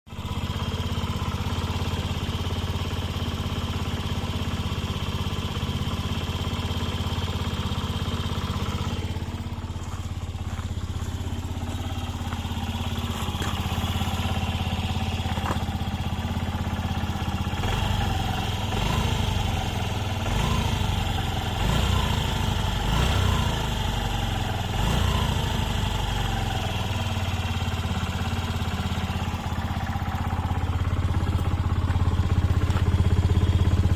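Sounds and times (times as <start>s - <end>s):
scooter engine idling and revving: 0.1s - 33.9s.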